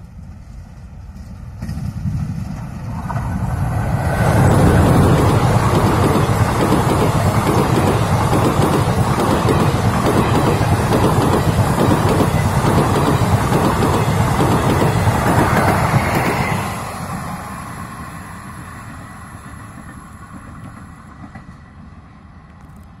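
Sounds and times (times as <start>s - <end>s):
train wheels clattering on rails: 0.3s - 22.9s.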